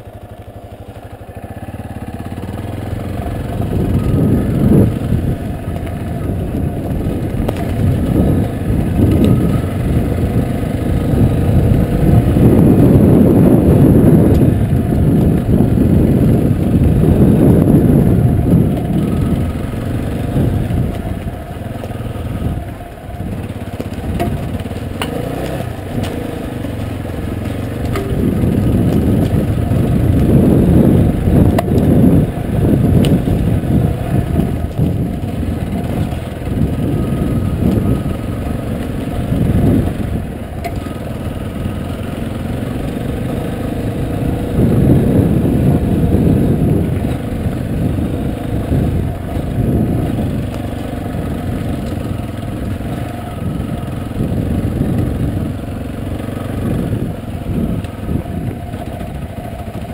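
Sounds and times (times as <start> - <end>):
motorcycle engine running off-road: 0.0 - 59.9.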